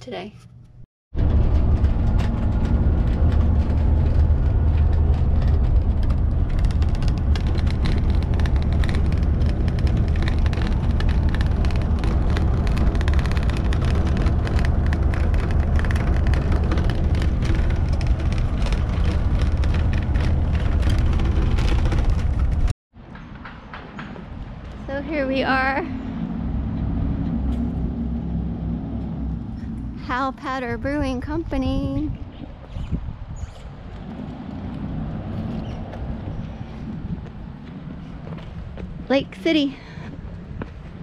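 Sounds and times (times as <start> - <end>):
tyre and road noise: 0.0 - 41.0
van engine drone: 0.6 - 22.7, 24.6 - 31.1, 33.1 - 41.0.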